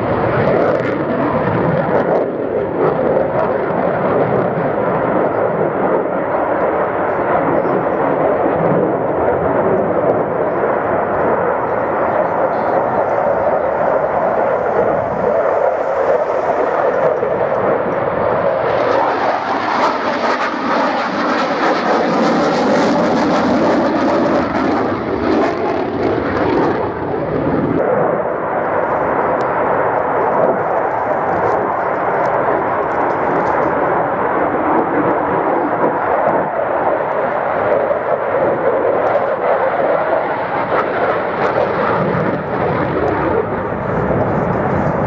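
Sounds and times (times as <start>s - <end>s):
jet fighter engine roar: 0.0s - 45.0s.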